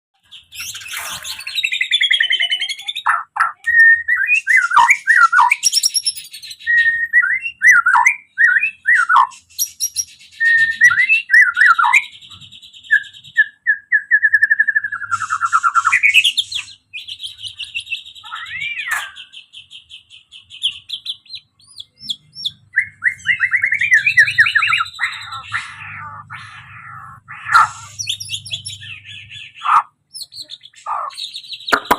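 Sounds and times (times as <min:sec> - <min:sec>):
bird singing varied song: 0:00.2 - 0:31.9.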